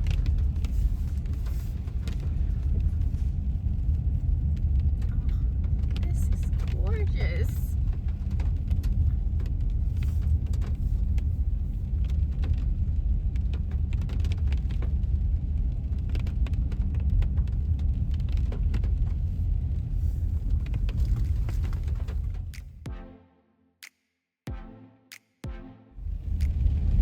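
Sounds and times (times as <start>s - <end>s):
car driving on wet road: 0.0s - 22.7s, 26.0s - 27.0s.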